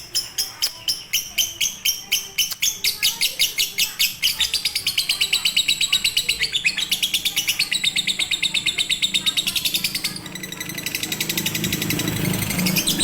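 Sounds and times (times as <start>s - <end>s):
lovebird chirping: 0.0s - 13.0s.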